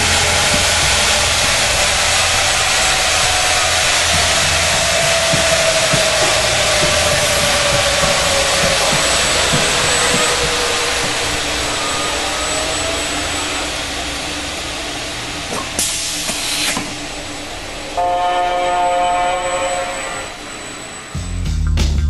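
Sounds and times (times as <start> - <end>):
chord of steady tones: 0.0 - 15.5, 17.1 - 21.4
belt sander hissing: 0.0 - 21.2.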